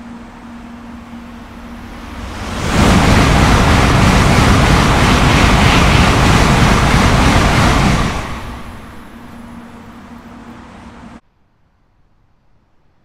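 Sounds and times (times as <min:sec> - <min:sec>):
high-speed train passing: 0:00.0 - 0:11.2.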